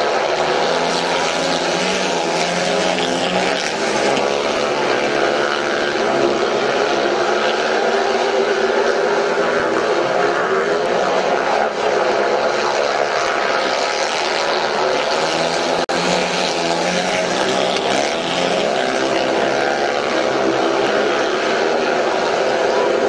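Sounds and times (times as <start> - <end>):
motorcycles racing: 0.0 - 23.0.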